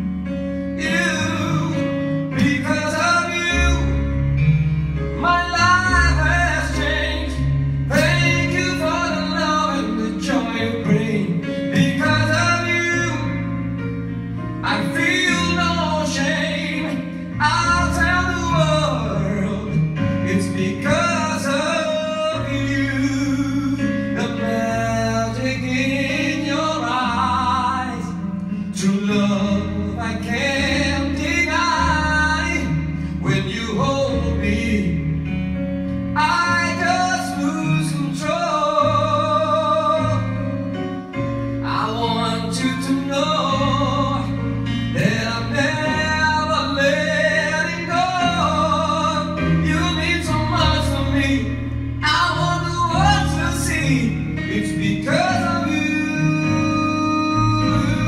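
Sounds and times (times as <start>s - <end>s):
backing track with bass notes: 0.0s - 58.0s
man singing with vibrato: 0.8s - 4.2s, 5.1s - 13.5s, 14.6s - 35.3s, 36.2s - 40.4s, 41.6s - 58.0s.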